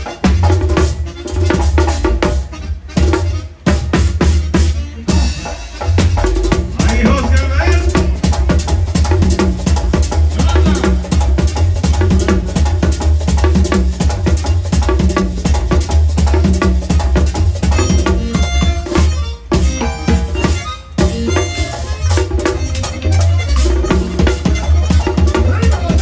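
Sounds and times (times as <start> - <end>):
band playing fast dance music: 0.0 - 26.0
heavy bass line: 0.0 - 26.0.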